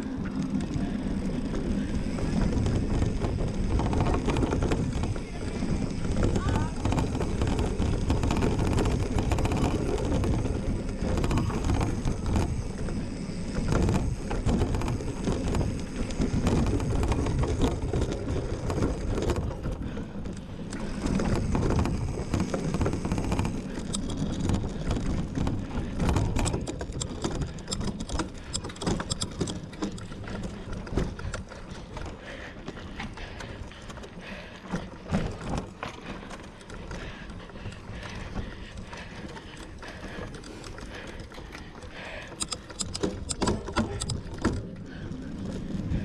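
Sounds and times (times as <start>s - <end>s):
bike frame and chain clattering: 0.0s - 46.0s
bike tyres rumbling: 0.0s - 46.0s
sharp clicks and rattles: 0.1s - 46.0s.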